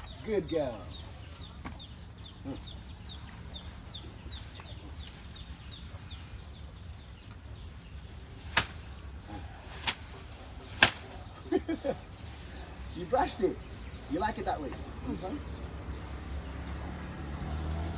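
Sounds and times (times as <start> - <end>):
bird chirping: 0.0 - 17.9.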